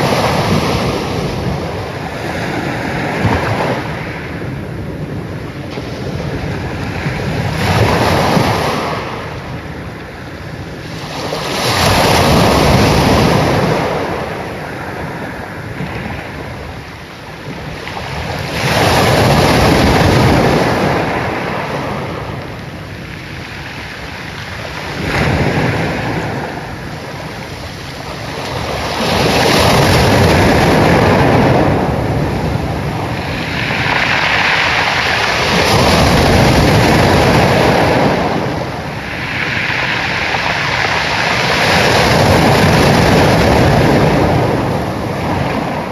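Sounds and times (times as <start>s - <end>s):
ocean waves breaking: 0.0s - 45.9s.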